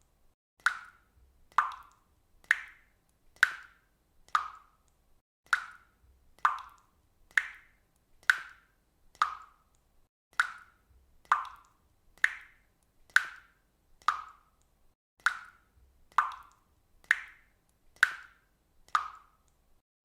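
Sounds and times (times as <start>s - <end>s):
water dripping: 0.6s - 19.8s.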